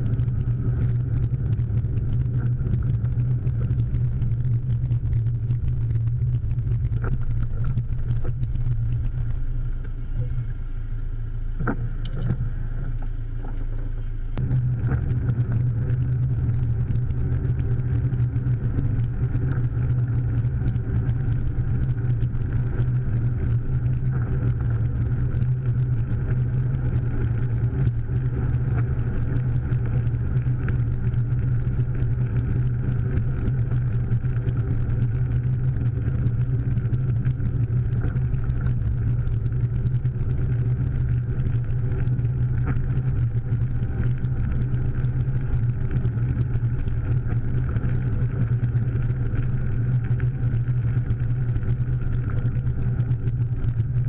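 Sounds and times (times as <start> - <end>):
car engine and road noise: 0.0 - 51.8.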